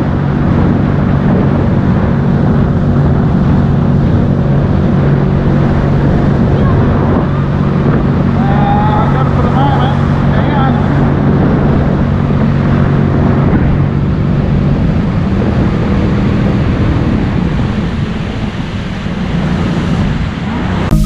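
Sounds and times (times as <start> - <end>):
jet ski engine humming: 0.0 - 21.0
water rushing against hull: 0.0 - 21.0
wind on microphone: 0.0 - 21.0.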